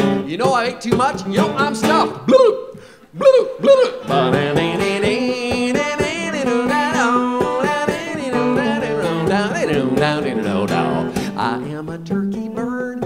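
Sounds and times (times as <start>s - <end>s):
acoustic guitar strumming: 0.0s - 13.0s
man singing: 0.2s - 13.0s.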